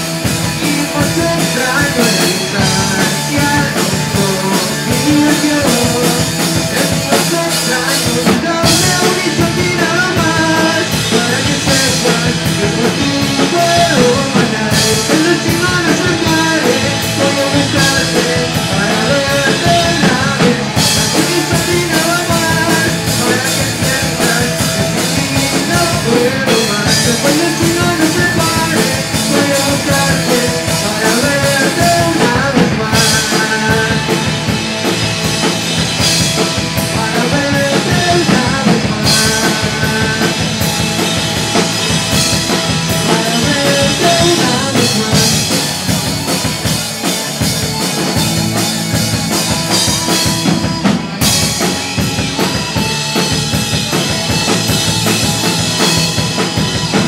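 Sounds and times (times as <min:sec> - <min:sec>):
drum kit: 0:00.0 - 0:57.0
electric guitar: 0:00.0 - 0:57.0
live rock band playing: 0:00.0 - 0:57.0.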